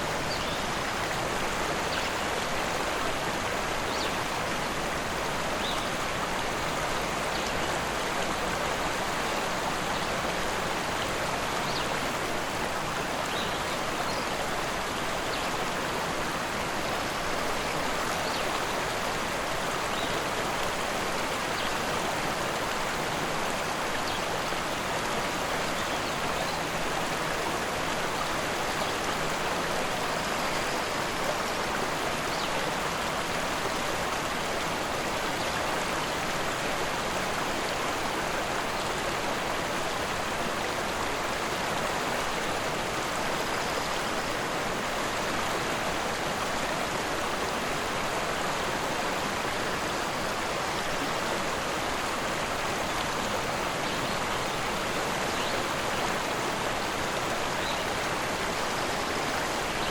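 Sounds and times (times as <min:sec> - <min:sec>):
rushing river water: 0:00.0 - 0:59.9.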